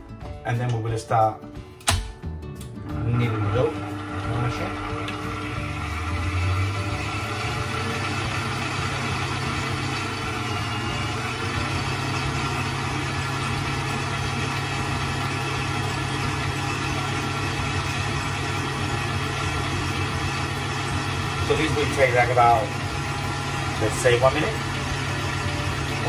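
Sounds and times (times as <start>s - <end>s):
electric mixer kneading dough: 3.0s - 26.0s.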